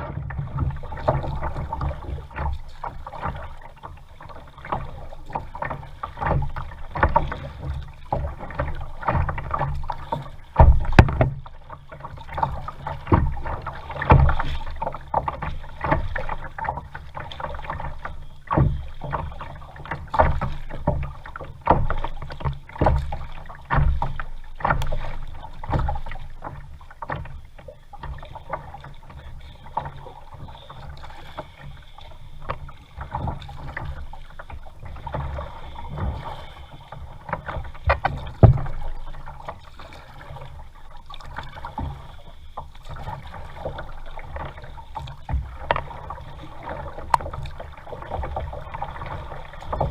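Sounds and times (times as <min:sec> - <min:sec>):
low rumble of water and wind: 0:00.0 - 0:49.9
paddle strokes splashing water: 0:00.0 - 0:49.9.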